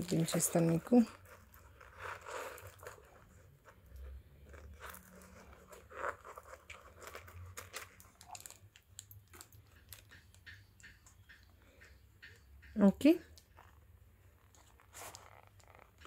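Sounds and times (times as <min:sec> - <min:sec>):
necklace links clinking: 0:00.0 - 0:13.8.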